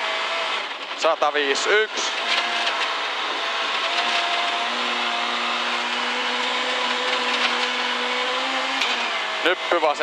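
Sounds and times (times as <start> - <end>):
car engine pulling steadily: 0.0 - 10.0
tyre and road noise on snow: 0.0 - 10.0.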